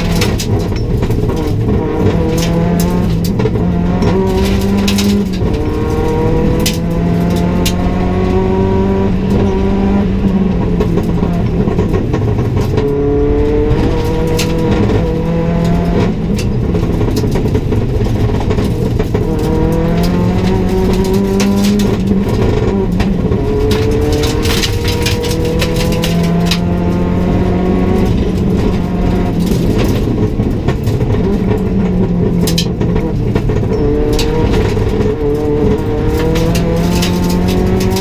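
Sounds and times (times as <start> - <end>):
gravel striking car underside: 0.0 - 38.0
rally car engine revving: 0.0 - 38.0.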